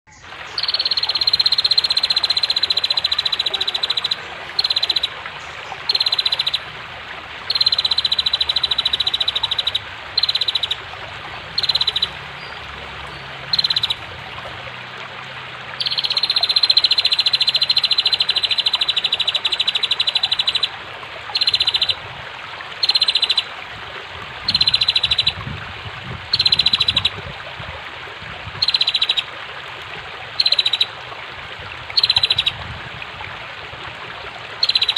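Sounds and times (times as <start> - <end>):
flowing water: 0.1 - 34.9.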